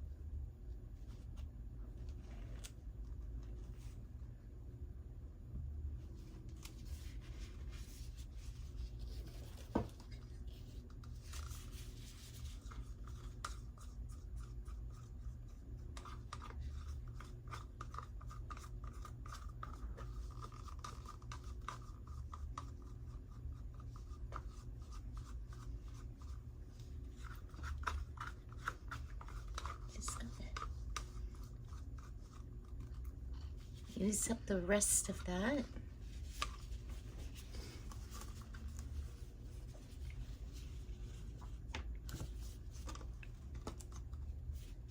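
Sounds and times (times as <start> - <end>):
steady low hum: 0.0 - 44.9
scraping and rubbing of paint cups: 6.8 - 44.9.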